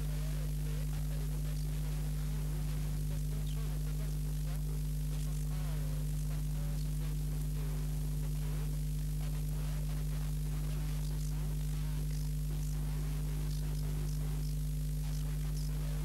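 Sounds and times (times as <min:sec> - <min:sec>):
electrical mains hum: 0:00.0 - 0:16.0
static hiss: 0:00.0 - 0:16.0.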